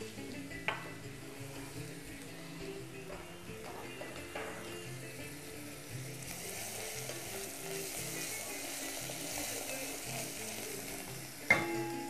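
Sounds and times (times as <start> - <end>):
meat and onions sizzling: 0.0 - 12.0
soft background music: 0.0 - 12.0.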